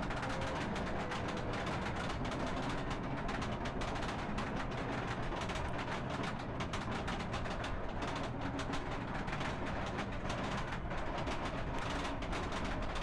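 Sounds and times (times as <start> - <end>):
roller coaster lift chain clacking: 0.0 - 13.0.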